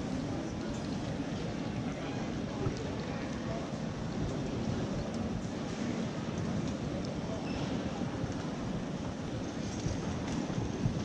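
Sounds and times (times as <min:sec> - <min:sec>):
airport terminal rumble: 0:00.0 - 0:11.0.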